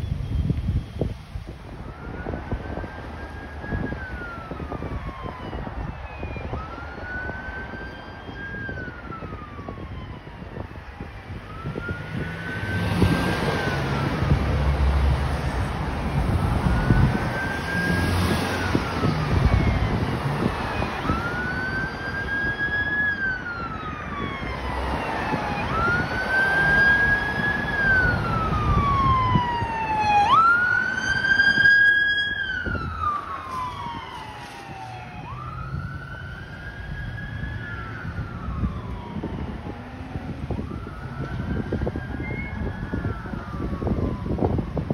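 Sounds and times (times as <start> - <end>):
passing car traffic rumble: 0.0 - 44.9
fire engine siren wailing: 0.1 - 44.9.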